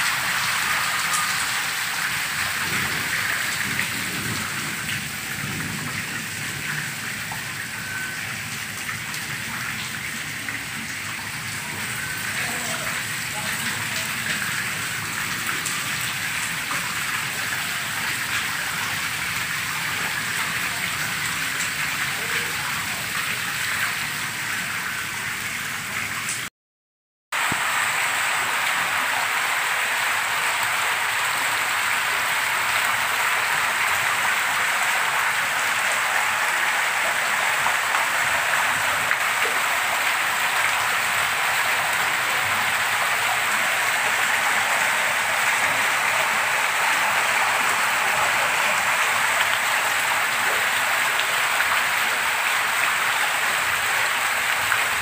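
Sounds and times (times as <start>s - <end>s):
heavy rain: 0.0s - 26.5s, 27.3s - 55.0s
water streaming down concrete steps: 0.0s - 26.5s, 27.4s - 55.0s.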